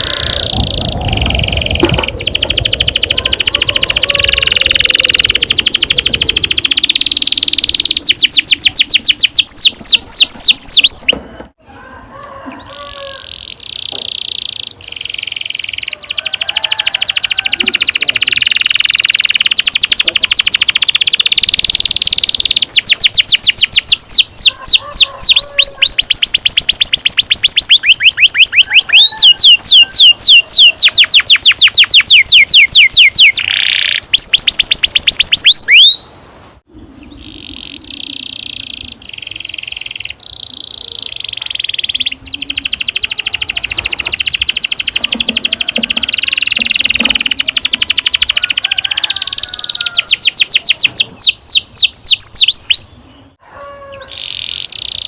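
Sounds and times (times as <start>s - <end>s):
canary singing trills: 0.0s - 11.2s, 12.6s - 36.1s, 36.7s - 55.0s.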